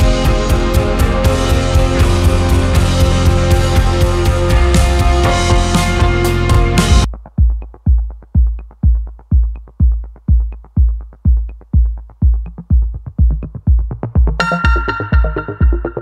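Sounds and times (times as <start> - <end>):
electronic music kick drum beat: 0.0 - 16.0
electronic music with synths: 0.0 - 16.0.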